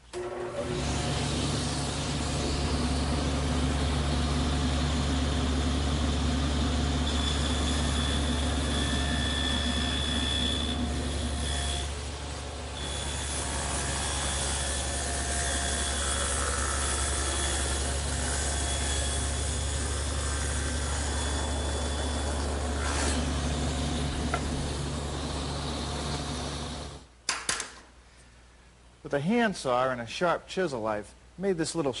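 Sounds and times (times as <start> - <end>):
table saw cutting wood: 0.2 - 27.0.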